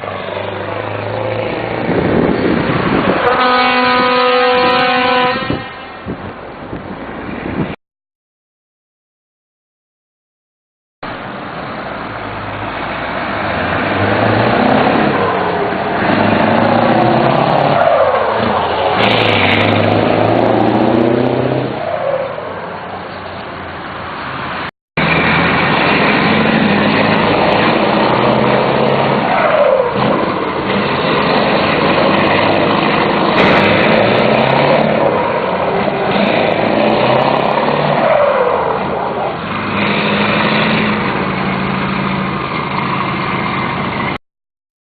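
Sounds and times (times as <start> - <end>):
truck diesel engine accelerating: 0.0 - 5.0, 11.1 - 44.2.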